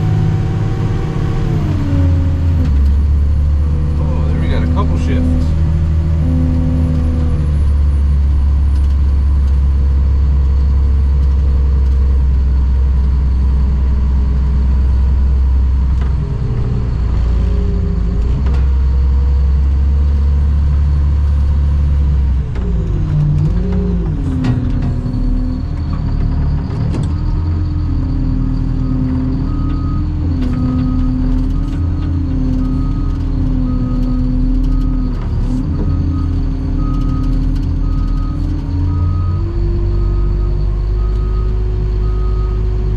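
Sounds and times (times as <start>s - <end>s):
dump truck diesel engine running: 0.0s - 42.9s.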